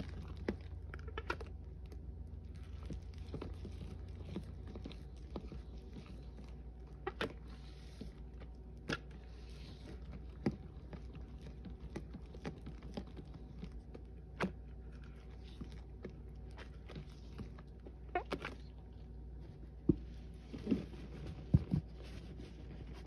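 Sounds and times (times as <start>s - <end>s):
wet paste squishing: 0.0s - 19.2s
steady low hum: 0.0s - 23.0s.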